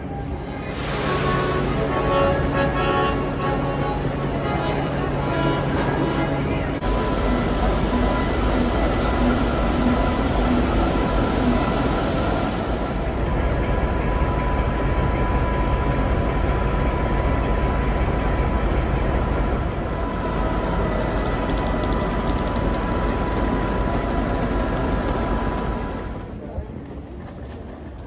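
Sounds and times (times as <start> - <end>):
standing trains humming and rumbling: 0.0 - 28.0.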